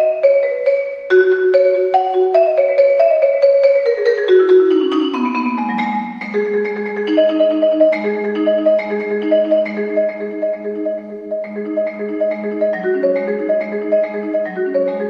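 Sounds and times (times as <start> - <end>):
marimba playing: 0.0 - 15.0.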